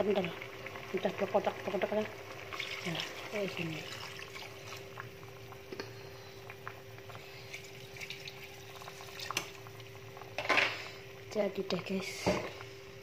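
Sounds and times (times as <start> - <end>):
faint steady hum: 0.0 - 13.0
sauce simmering in a pan: 0.0 - 13.0.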